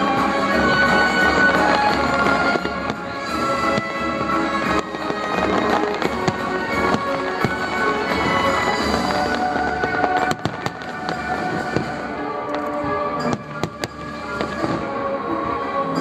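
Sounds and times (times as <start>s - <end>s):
fireworks bursting and crackling: 0.0s - 16.0s
music with held tones: 0.0s - 16.0s.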